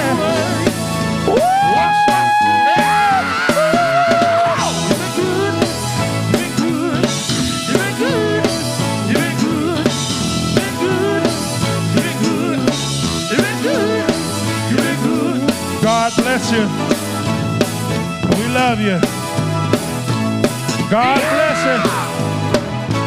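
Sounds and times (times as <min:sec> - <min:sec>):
bass drum and snare beat: 0:00.0 - 0:23.0
gospel band playing instrumental: 0:00.0 - 0:23.0.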